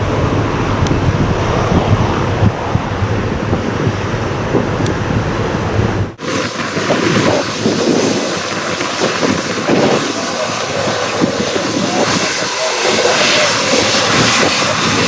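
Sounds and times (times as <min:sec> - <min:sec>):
steady outdoor rumble: 0:00.0 - 0:15.0
wind buffeting microphone: 0:00.0 - 0:15.0.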